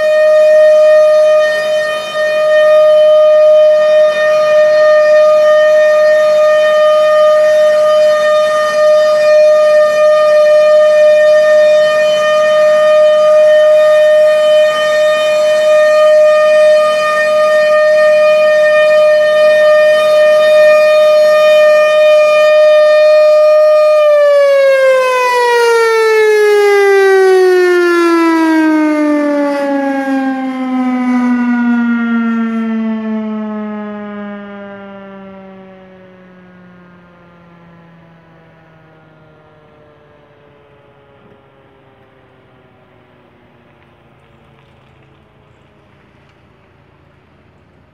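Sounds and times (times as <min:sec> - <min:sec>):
warning siren winding down: 0:00.0 - 0:47.9.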